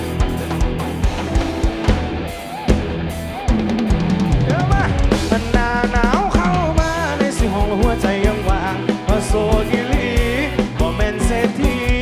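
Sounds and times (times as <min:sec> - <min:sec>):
bass line: 0:00.0 - 0:12.0
drum kit beat: 0:00.0 - 0:12.0.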